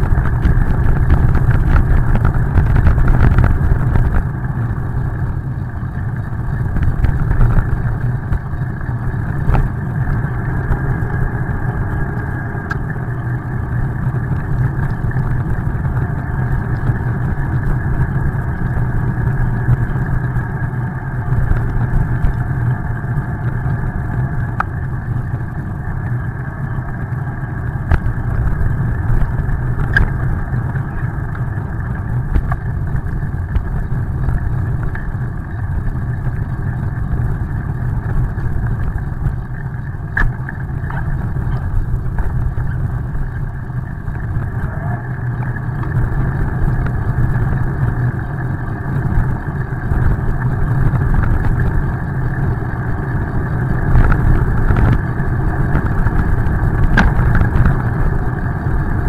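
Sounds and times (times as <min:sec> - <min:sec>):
wind rush: 0:00.0 - 0:24.6, 0:26.9 - 0:59.0
bicycle tyres on wet road: 0:00.0 - 0:59.0.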